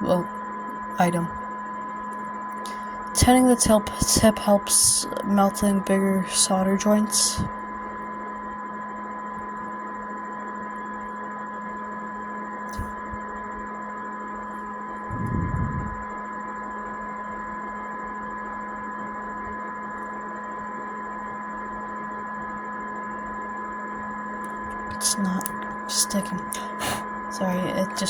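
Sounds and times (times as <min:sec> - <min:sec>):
electrical hum and whine: 0:00.0 - 0:28.0.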